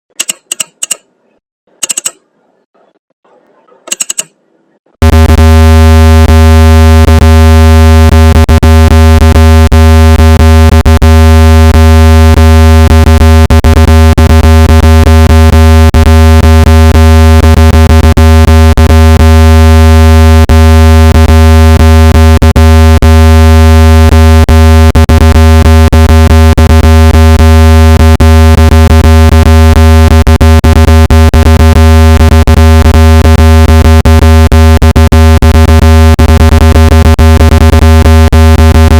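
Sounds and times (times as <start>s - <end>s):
low-pitched electronic buzz: 5.0s - 38.9s.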